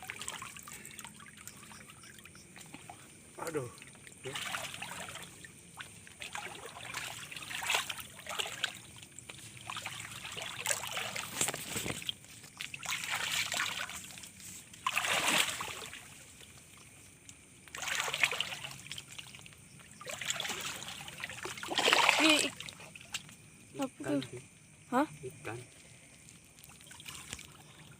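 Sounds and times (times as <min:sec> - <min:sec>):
water splashing and trickling: 0:00.0 - 0:27.9.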